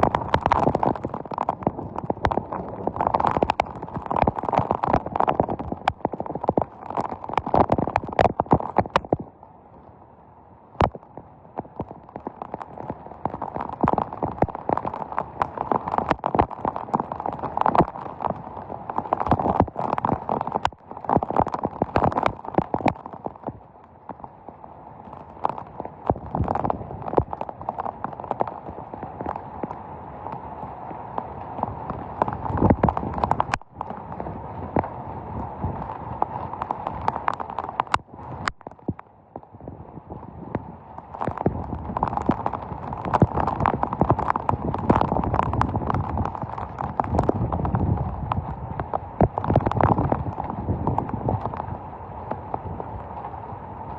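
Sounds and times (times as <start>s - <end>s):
raindrops tapping hard surface: 0.0s - 9.3s, 10.8s - 53.9s
heavy rain rushing: 0.0s - 9.4s, 10.8s - 53.9s.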